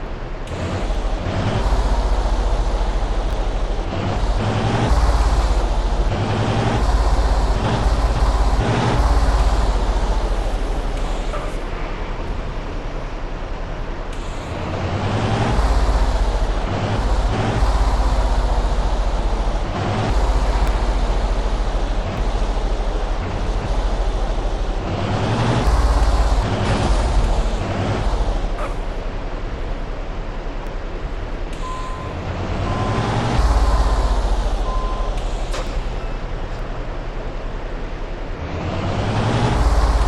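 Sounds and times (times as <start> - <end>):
truck engine and road rumble: 0.0 - 40.0.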